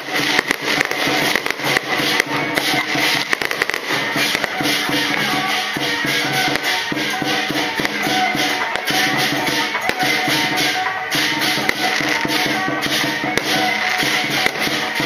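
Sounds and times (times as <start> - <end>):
music with steady beat: 0.0 - 15.0
shaker percussion: 0.0 - 15.0.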